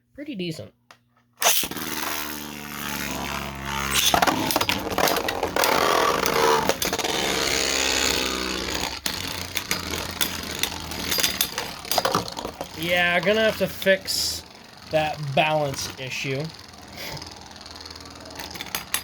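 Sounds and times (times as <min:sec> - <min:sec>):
spinning tops clashing: 0:01.4 - 0:19.0
spinning tops whirring and scraping: 0:01.4 - 0:19.0.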